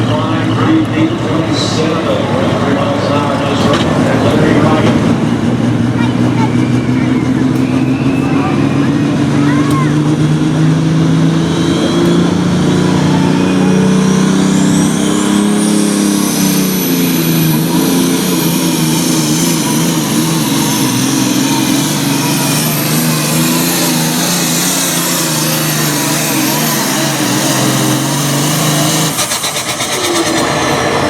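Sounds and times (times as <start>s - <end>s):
diesel engine running hard: 0.0s - 31.0s
high turbo whine: 0.0s - 31.0s.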